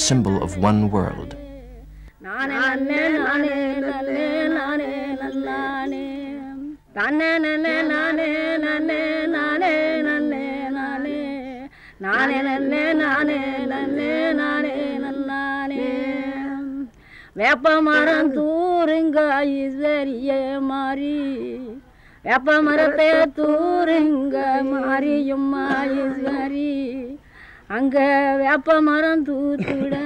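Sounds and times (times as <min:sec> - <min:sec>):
woman singing folk song: 0:00.3 - 0:30.0.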